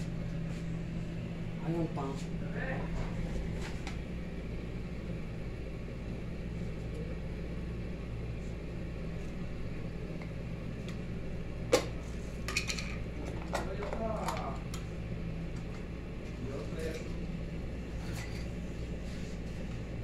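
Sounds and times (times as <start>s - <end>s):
low mains hum: 0.0s - 20.0s.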